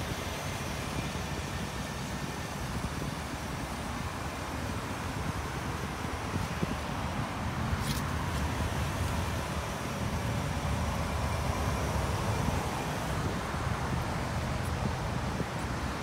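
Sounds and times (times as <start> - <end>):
faint traffic hum: 0.0 - 16.0
wind buffeting microphone: 0.1 - 16.0.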